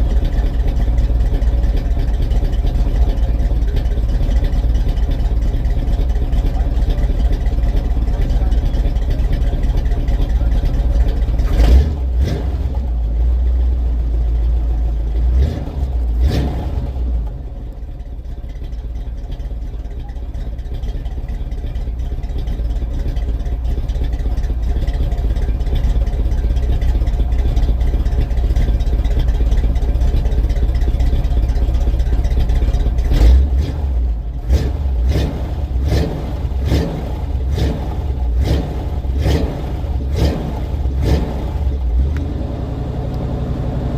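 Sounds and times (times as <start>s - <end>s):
pickup engine running and revving: 0.0s - 43.9s.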